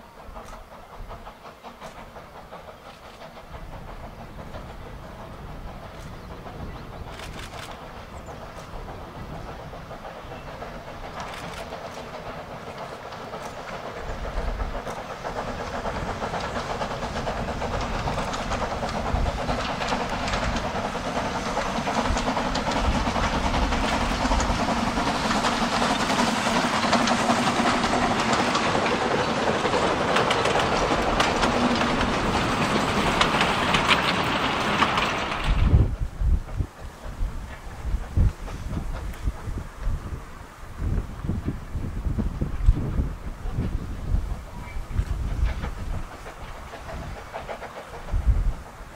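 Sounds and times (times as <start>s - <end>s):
steam locomotive chuffing: 0.0s - 48.9s
wheels clattering on track: 0.0s - 48.9s.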